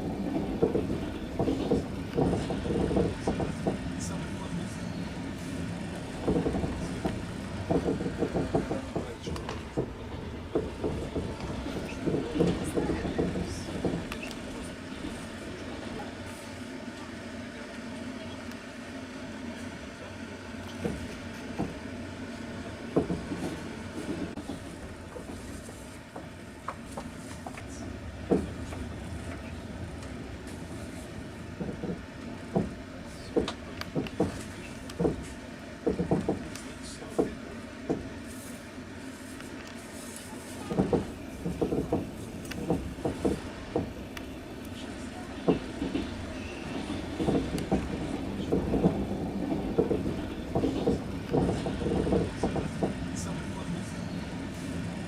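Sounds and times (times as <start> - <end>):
wheels clacking over rail joints: 0.0 - 16.0, 22.8 - 38.2, 39.4 - 55.0
train rumble inside carriage: 0.0 - 55.0.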